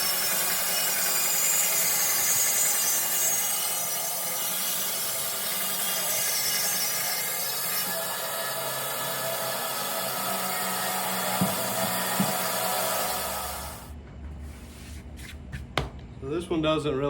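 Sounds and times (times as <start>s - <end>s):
bandsaw cutting through log: 0.0s - 13.9s.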